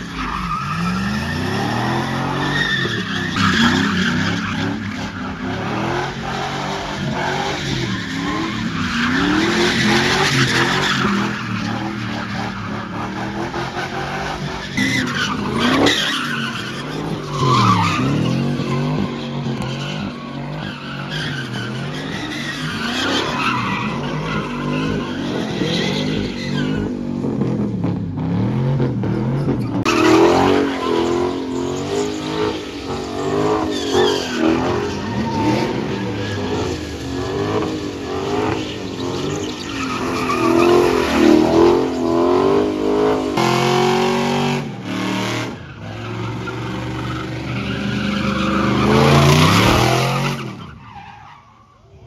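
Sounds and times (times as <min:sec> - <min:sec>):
tyres squealing on asphalt: 0:00.0 - 0:27.7, 0:28.5 - 0:52.0
car engine revving: 0:00.0 - 0:51.0.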